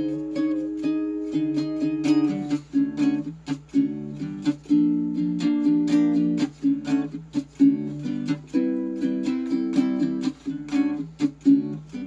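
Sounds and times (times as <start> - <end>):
ukulele strumming chords: 0.0 - 12.0.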